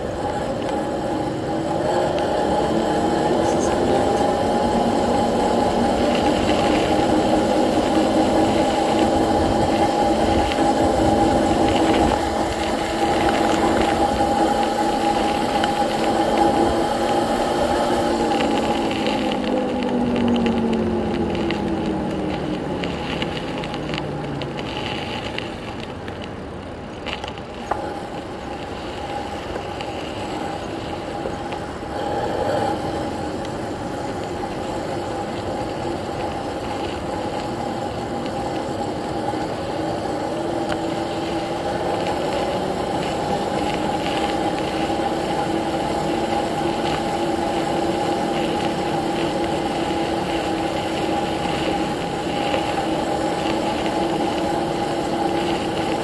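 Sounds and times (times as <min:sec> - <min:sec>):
electric bike motor whining: 0:00.0 - 0:56.0
tyre and air noise: 0:00.0 - 0:56.0.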